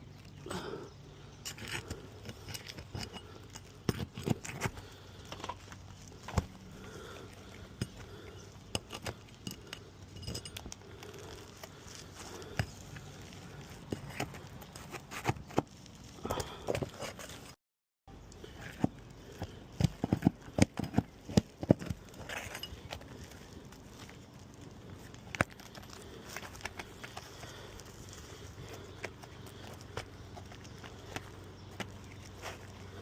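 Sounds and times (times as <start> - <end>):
clicks and scrapes on shingle roof: 1.4 - 17.6, 18.4 - 33.0.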